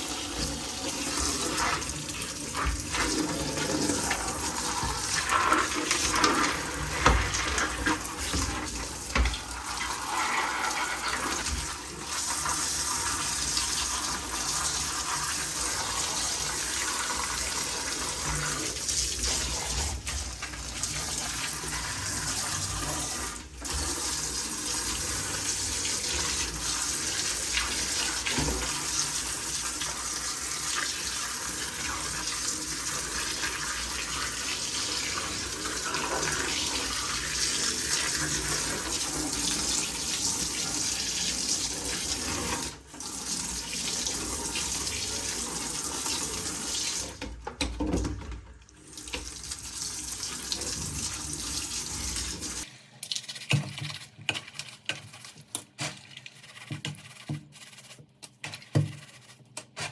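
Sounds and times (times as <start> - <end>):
water running: 0.0 - 57.7.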